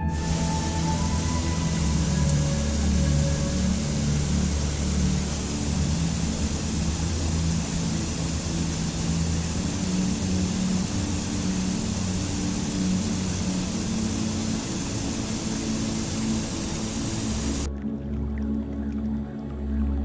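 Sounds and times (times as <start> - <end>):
running water hiss: 0.0 - 17.7
ambient drone music: 0.0 - 20.0.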